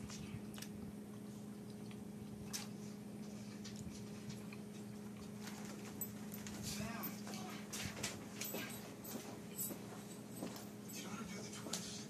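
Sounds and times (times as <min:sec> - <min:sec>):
faint chewing: 0:00.0 - 0:10.7
electrical hum: 0:00.0 - 0:12.0.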